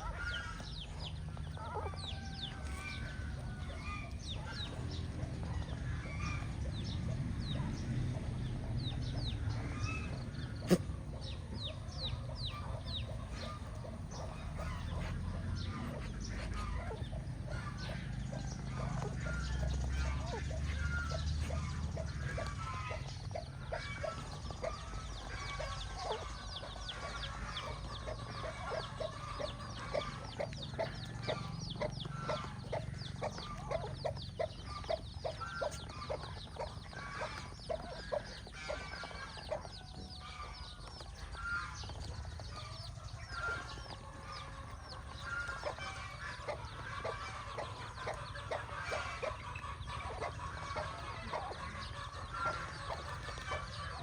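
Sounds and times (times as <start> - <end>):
chicks peeping: 0.0 - 54.0
hen clucking: 0.0 - 54.0.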